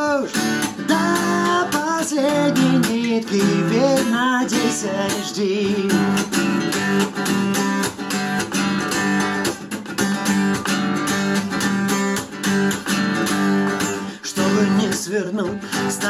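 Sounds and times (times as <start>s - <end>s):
guitar strumming chords: 0.0s - 16.0s.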